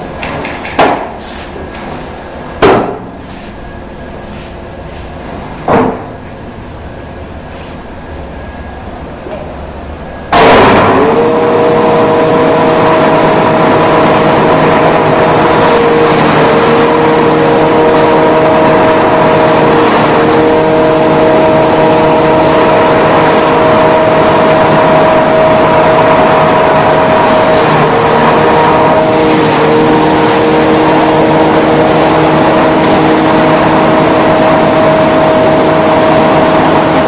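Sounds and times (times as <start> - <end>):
hammer mill running: 0.0 - 37.0.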